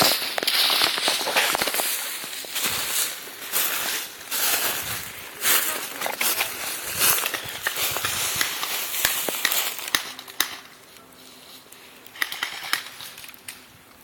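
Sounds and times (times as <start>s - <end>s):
dry leaves rustling and crunching: 0.0s - 13.6s.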